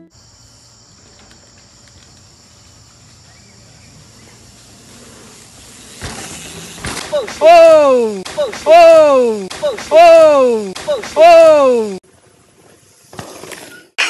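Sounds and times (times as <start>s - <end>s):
insects droning: 0.0s - 12.0s
mountain bike rushing on dirt: 0.4s - 14.0s.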